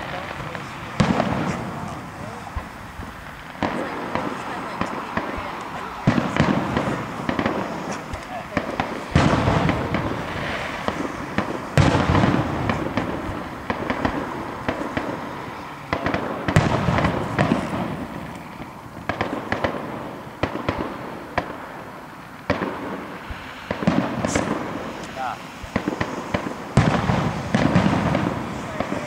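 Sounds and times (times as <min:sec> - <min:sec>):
fireworks bangs: 0:00.0 - 0:29.0
fireworks pops and crackles: 0:00.0 - 0:29.0.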